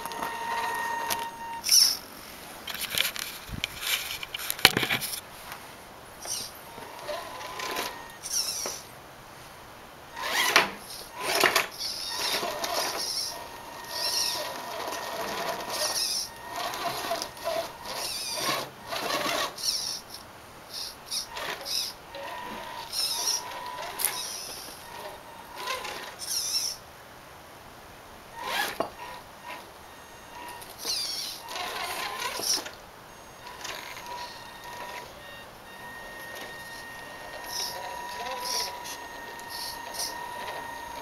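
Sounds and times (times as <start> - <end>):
electric motor and gearbox whining: 0.0 - 2.0, 6.2 - 8.9, 10.2 - 26.8, 28.4 - 41.0.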